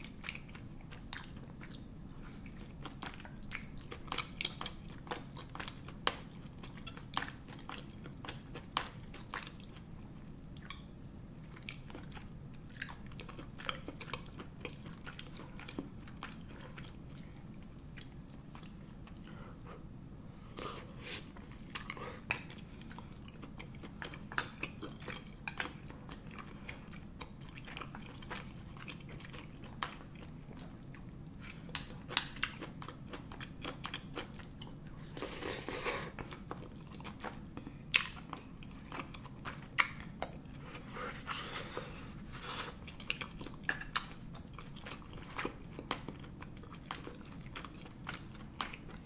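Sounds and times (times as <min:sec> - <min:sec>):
person chewing food: 0:00.0 - 0:49.0.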